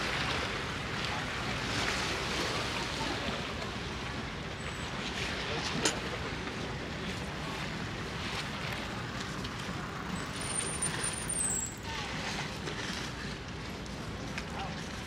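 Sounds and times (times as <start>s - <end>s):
outdoor traffic noise: 0.0s - 15.0s.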